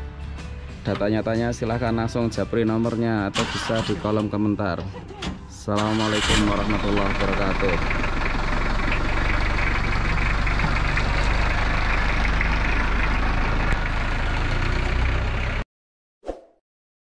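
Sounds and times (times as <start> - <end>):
truck engine running: 0.3 - 15.6.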